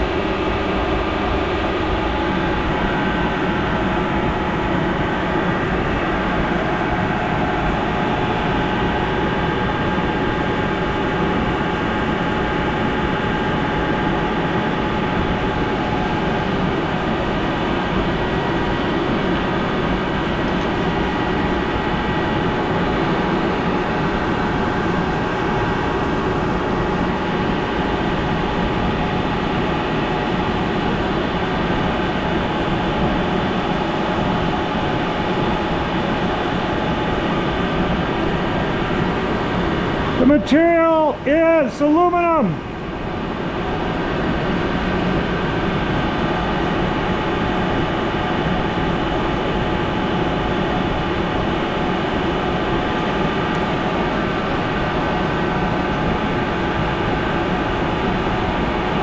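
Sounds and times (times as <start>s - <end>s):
machinery drone: 0.0s - 59.0s
steady whining tones: 0.0s - 59.0s.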